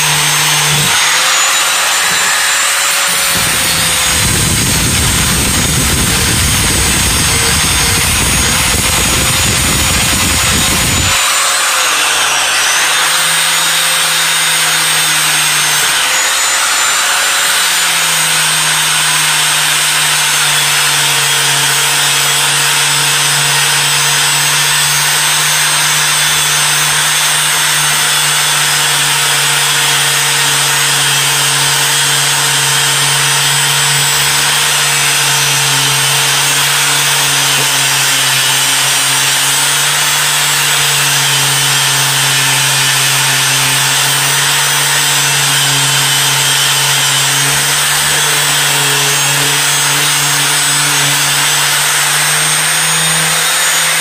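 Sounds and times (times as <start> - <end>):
angle grinder grinding steel: 0.0 - 54.0.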